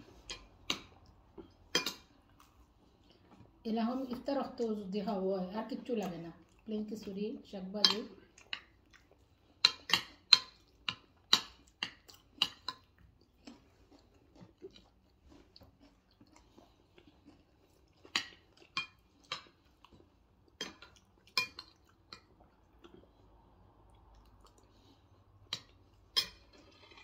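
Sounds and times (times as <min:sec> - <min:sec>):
faint chewing: 0:00.0 - 0:27.0.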